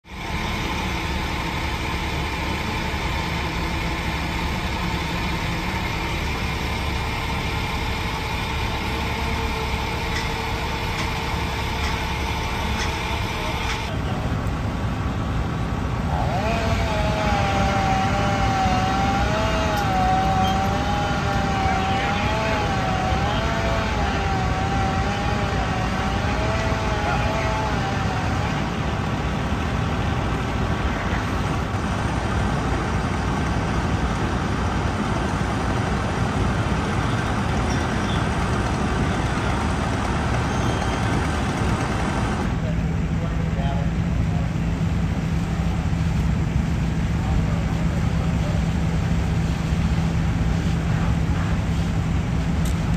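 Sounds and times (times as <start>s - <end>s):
heavy engines droning: 0.0s - 52.9s.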